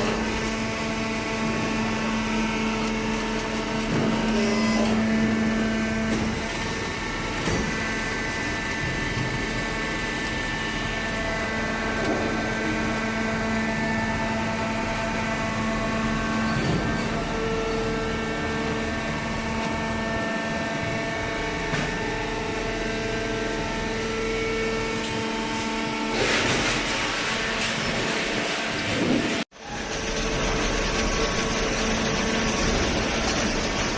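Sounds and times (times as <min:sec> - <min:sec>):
baler machine hum: 0:00.0 - 0:33.9.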